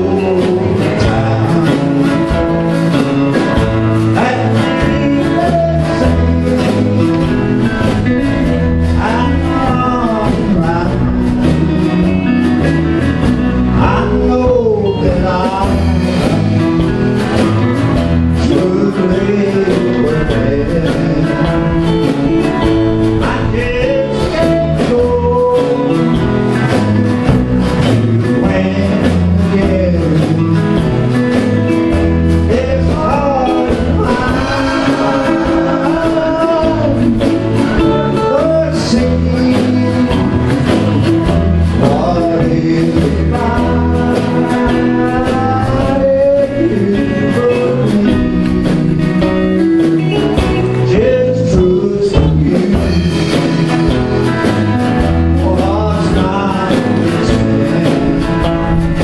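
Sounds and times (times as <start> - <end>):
acoustic guitar: 0.0 - 59.0
man singing: 0.0 - 59.0.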